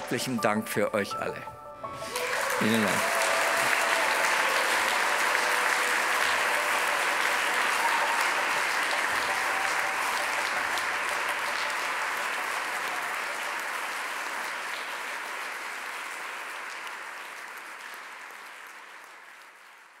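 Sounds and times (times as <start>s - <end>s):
audience applause: 2.0s - 20.0s.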